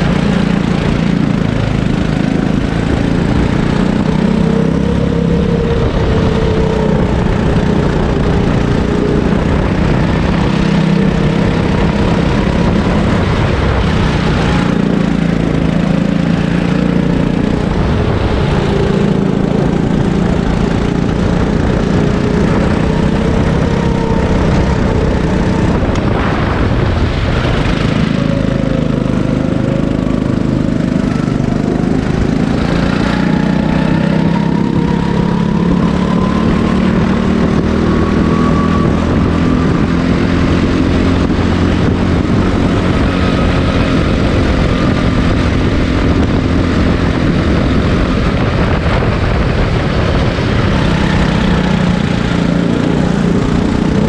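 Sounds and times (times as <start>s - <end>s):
kart engine running flat out: 0.0s - 54.0s.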